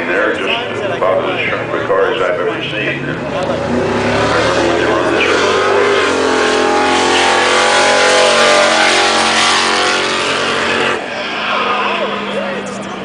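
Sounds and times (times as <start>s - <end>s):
car engine driving past: 2.6s - 13.0s.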